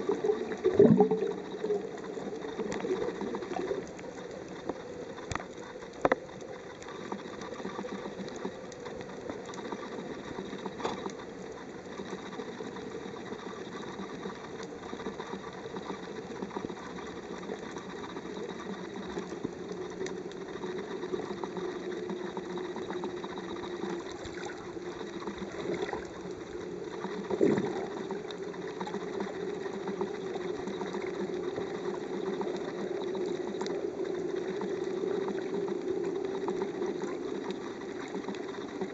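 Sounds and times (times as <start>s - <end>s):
underwater water noise drone: 0.0s - 38.9s
scattered clicks: 0.1s - 38.9s.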